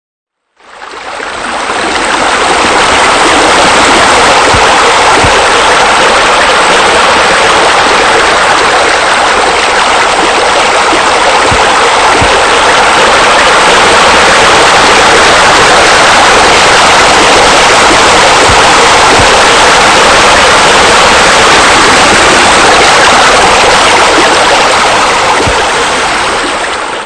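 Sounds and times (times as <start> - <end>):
rush of falling water: 0.6 - 27.0.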